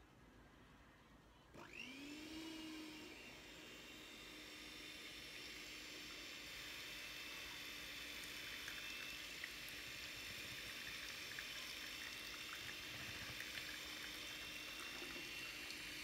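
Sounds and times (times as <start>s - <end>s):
electric hand mixer running: 1.6s - 16.0s.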